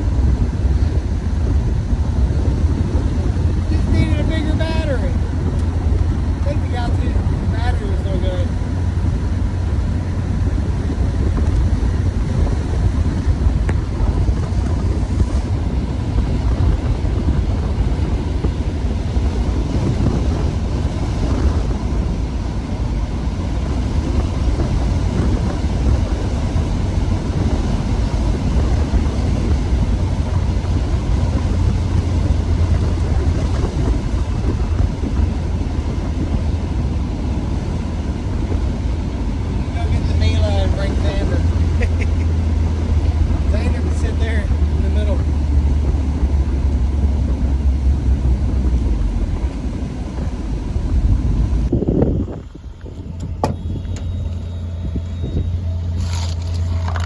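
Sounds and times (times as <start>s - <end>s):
car engine and road noise: 0.0s - 57.0s
wind rumbling on microphone: 0.0s - 57.0s.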